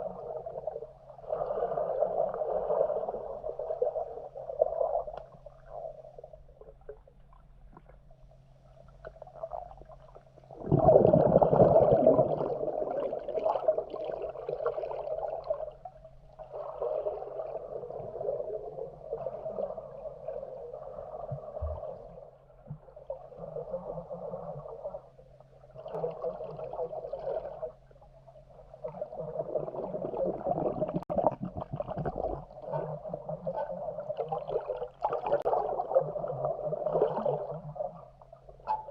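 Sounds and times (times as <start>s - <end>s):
muffled underwater swooshing and gurgling: 0.0s - 7.0s, 9.3s - 38.9s.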